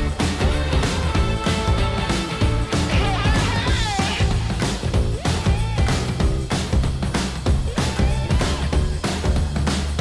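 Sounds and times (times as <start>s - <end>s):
rock music with steady beat: 0.0s - 10.0s.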